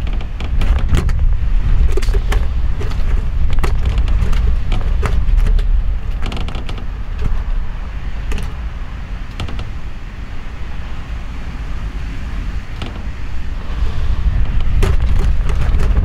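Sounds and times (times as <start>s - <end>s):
gale wind gusting against house: 0.0s - 16.0s.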